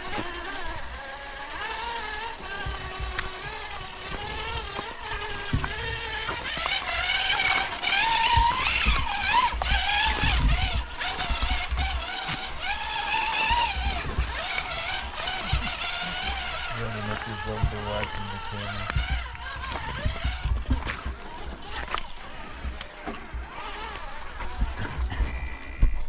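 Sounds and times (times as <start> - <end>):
electric motors whining: 0.0 - 26.0
low thumps on rocks: 2.4 - 16.7, 17.3 - 26.0.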